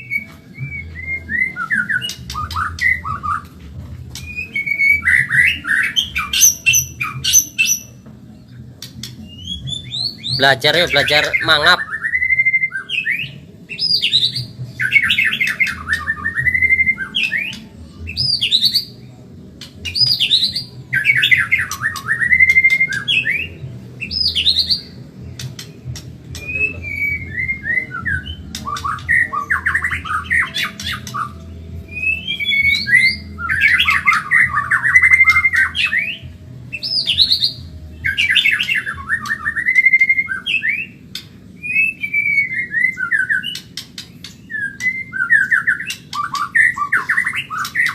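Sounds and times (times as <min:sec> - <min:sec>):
songbird singing trills and whistles: 0:00.0 - 0:47.9.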